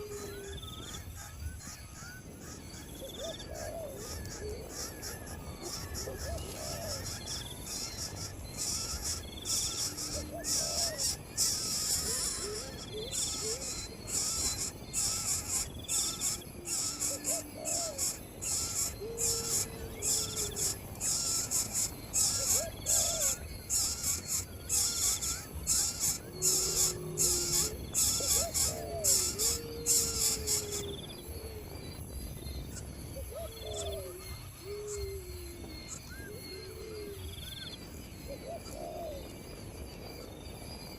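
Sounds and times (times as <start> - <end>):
birds calling: 0.0 - 40.9
insects buzzing: 0.0 - 40.9.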